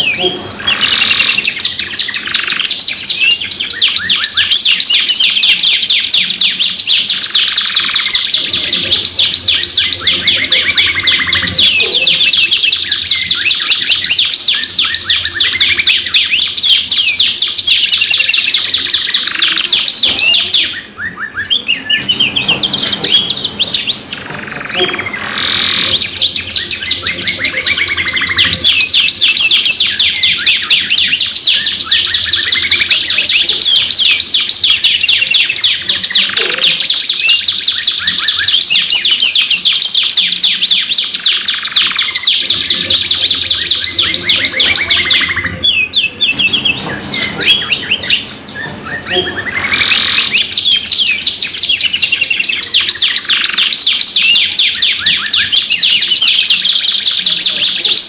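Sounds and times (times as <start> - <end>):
canaries singing rolling trills: 0.0 - 58.0.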